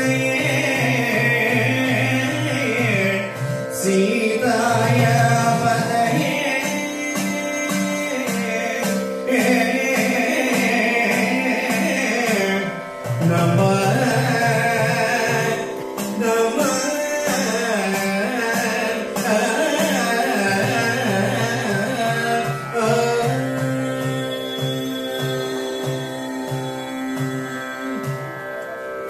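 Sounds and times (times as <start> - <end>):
man singing into a microphone: 0.0 - 28.0.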